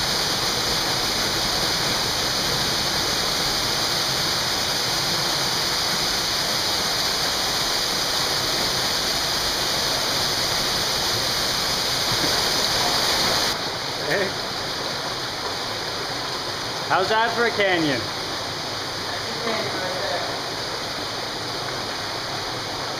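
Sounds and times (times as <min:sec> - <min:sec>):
small waterfall rushing: 0:00.0 - 0:22.9.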